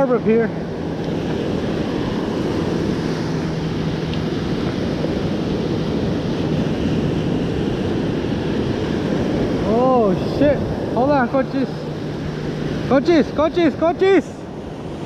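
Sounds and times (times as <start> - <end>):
ocean surf washing up beach: 0.0 - 15.0
wind buffeting microphone: 0.0 - 15.0.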